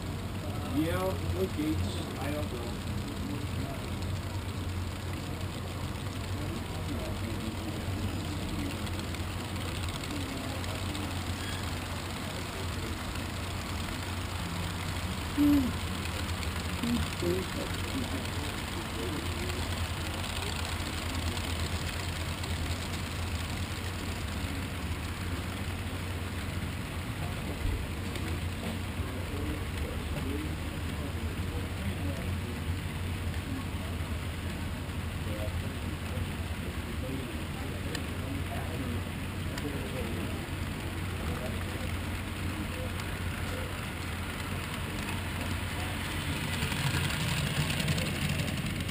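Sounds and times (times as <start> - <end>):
model train wheels rumbling on rails: 0.0 - 48.9
steady low hum: 0.0 - 48.9.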